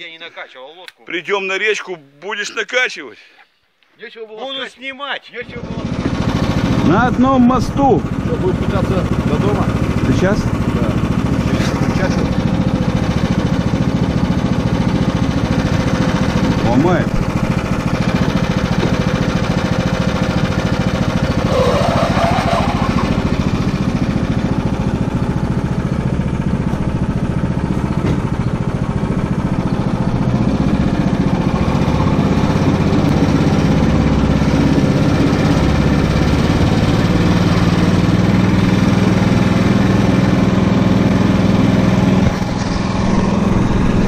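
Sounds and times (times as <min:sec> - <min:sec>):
all-terrain vehicle engine running: 0:05.5 - 0:44.0.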